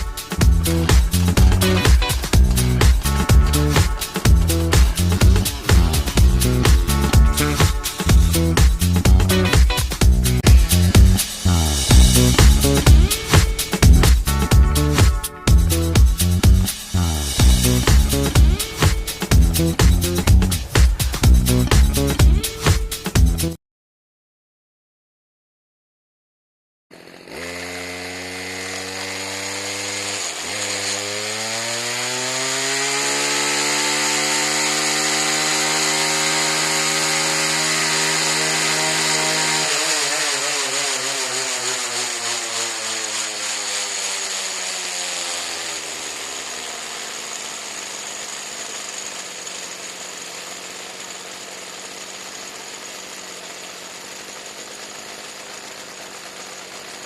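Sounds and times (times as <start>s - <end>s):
small engine revving: 0.0s - 23.5s, 26.9s - 57.0s.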